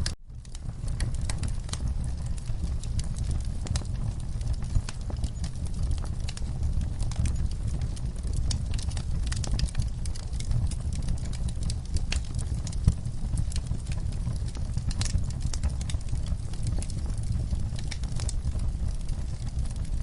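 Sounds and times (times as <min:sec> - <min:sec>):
logs crackling in a fireplace: 0:00.0 - 0:20.0
low rumble of flame: 0:00.0 - 0:20.0
sharp pops of burning wood: 0:00.3 - 0:19.9.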